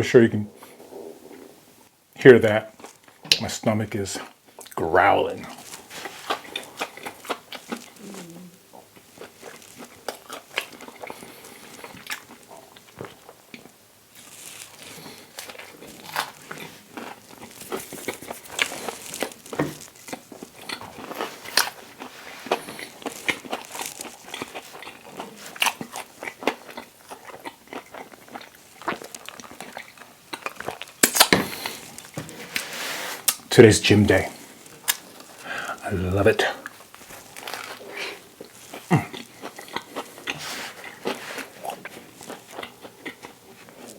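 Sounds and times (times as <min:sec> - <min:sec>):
chewing and biting food: 0:05.4 - 0:32.3, 0:34.3 - 0:43.9.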